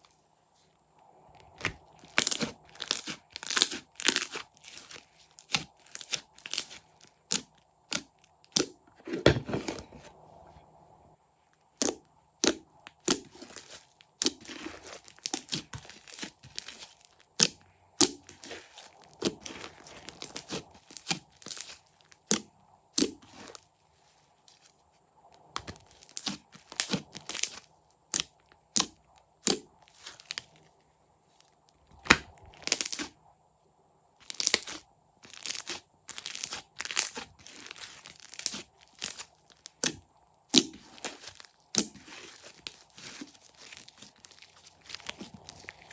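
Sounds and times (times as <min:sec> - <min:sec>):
slime crackling and tearing: 0:01.5 - 0:08.7, 0:11.8 - 0:23.6, 0:25.4 - 0:30.5, 0:32.0 - 0:33.1, 0:34.2 - 0:45.9.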